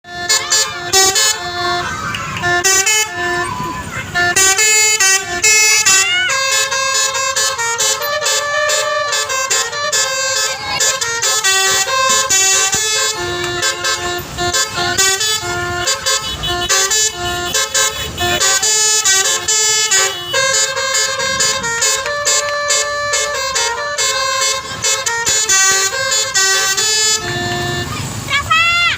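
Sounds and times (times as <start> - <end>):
bus air horn playing a tune: 0.0 - 28.9.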